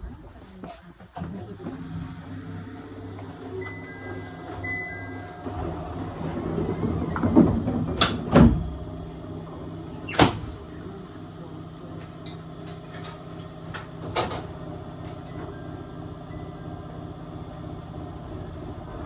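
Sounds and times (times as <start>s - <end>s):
electric train hum and rumble: 0.0s - 19.0s.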